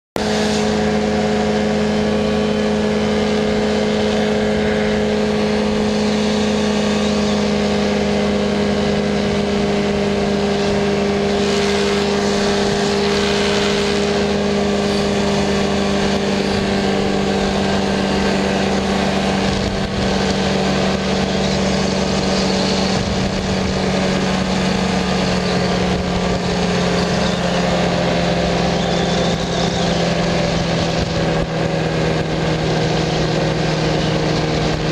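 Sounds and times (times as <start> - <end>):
engine and propeller droning: 0.2 - 34.9.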